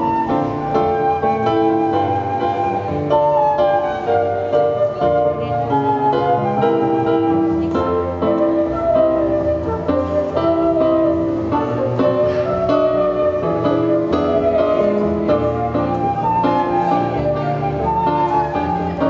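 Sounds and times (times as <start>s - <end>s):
double bass: 0.0s - 19.0s
flute: 0.0s - 19.0s
saxophone: 0.0s - 19.0s.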